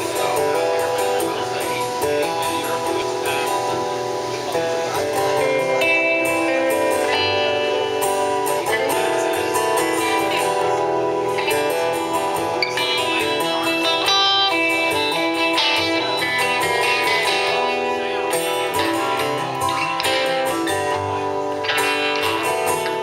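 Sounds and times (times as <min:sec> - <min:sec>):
acoustic guitar strumming: 0:00.0 - 0:23.0
electric guitar picking melody: 0:00.0 - 0:23.0.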